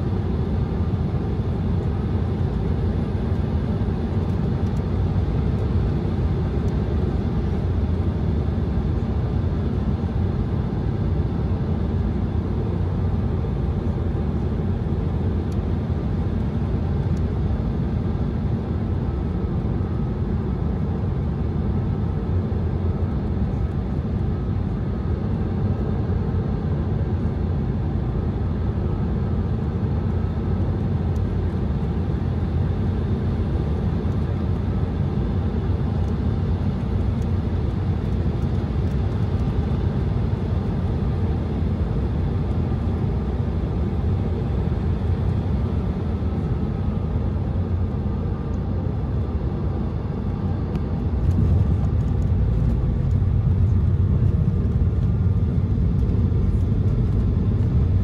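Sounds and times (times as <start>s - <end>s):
jet cabin rumble and hiss: 0.0s - 58.0s.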